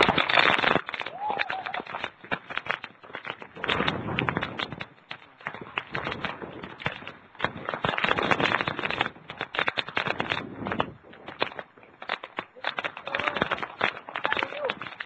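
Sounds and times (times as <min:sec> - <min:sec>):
clicks and rattles: 0:00.0 - 0:15.0
rain: 0:00.0 - 0:15.0
wind gusting on microphone: 0:00.0 - 0:15.0.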